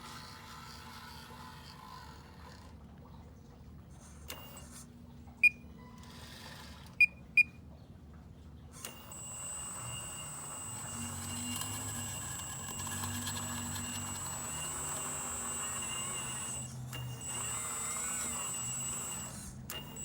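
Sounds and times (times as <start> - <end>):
electric pump motor whine: 0.0 - 7.8, 8.5 - 20.0.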